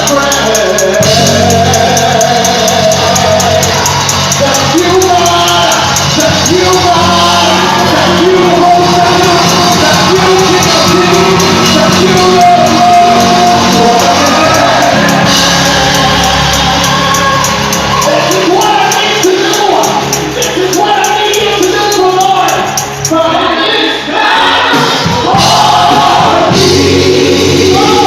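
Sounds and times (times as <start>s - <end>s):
gospel band playing: 0.0s - 28.0s
singers singing: 0.0s - 28.0s.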